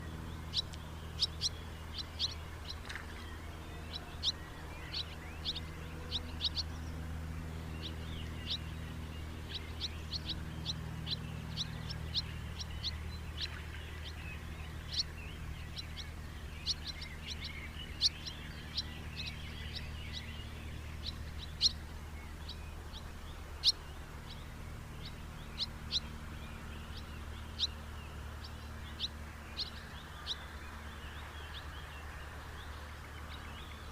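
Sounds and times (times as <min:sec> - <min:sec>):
house martins chirping: 0:00.0 - 0:33.9
steady low hum: 0:00.0 - 0:33.9.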